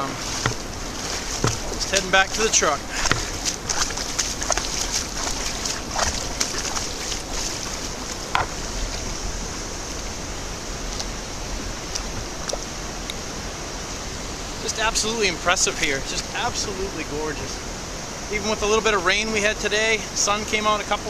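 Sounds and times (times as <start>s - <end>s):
waterfall rushing: 0.0s - 18.7s.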